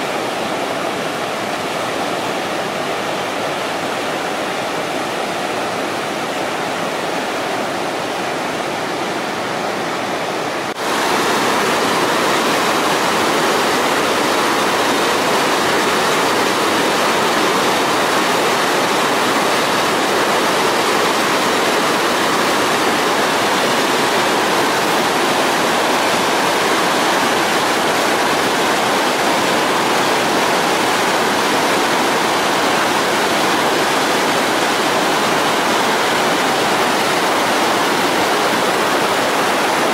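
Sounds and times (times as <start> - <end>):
whitewater rushing over boulders: 0.0 - 39.9.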